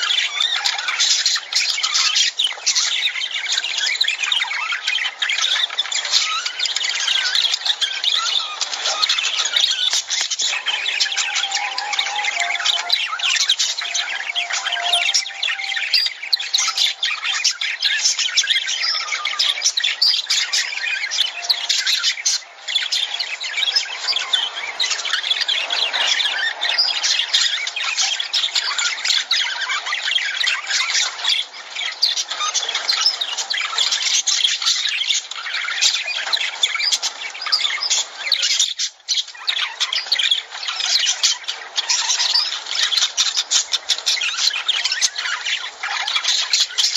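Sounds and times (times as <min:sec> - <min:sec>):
lovebirds calling: 0:00.0 - 0:46.9.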